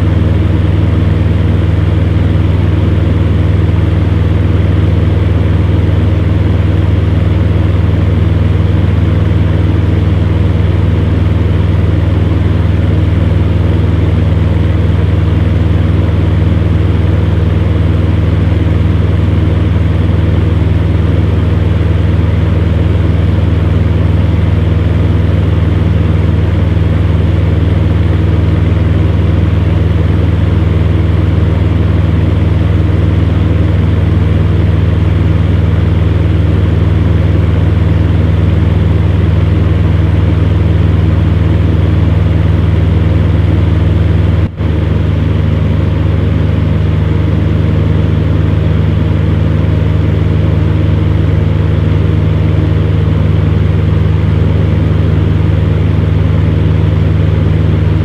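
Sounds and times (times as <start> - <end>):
fan heater motor hum: 0.0 - 58.0.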